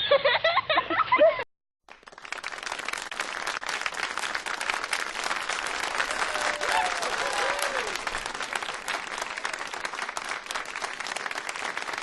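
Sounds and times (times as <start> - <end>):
crowd applauding: 1.9 - 12.0.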